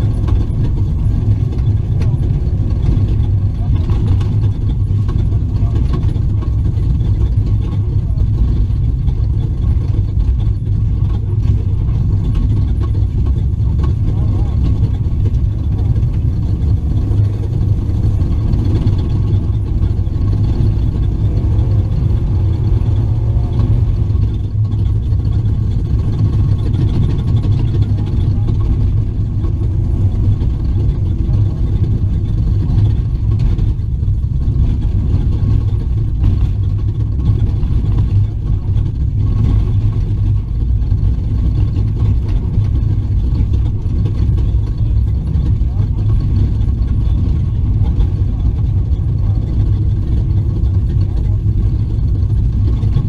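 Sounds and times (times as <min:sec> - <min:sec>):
truck engine rumble inside cab: 0:00.0 - 0:53.0.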